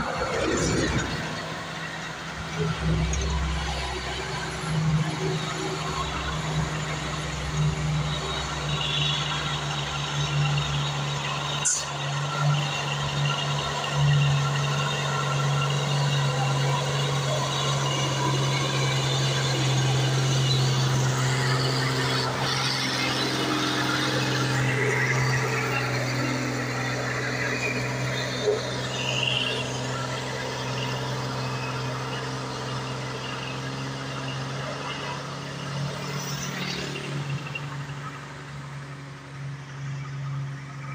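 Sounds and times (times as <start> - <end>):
diesel truck engine under load: 0.0 - 40.9
road and tyre noise: 0.0 - 40.9.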